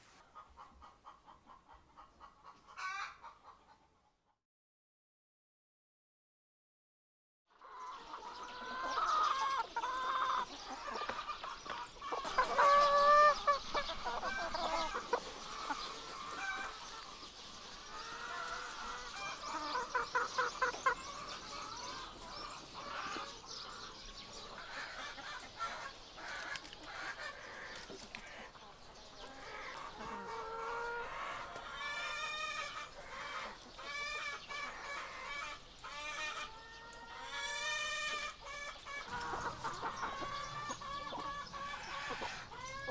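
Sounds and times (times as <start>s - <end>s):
hens clucking: 0.1s - 4.1s, 7.6s - 42.9s.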